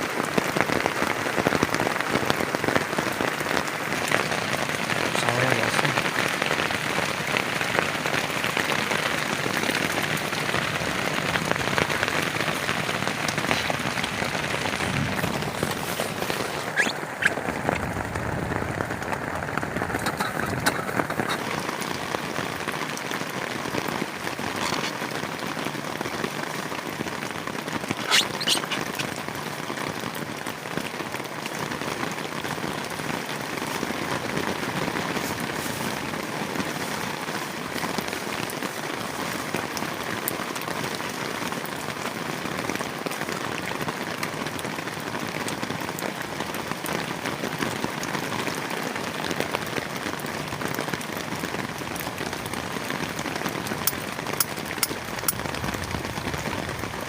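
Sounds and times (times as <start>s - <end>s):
heavy rain on a plastic tarp: 0.0s - 57.0s.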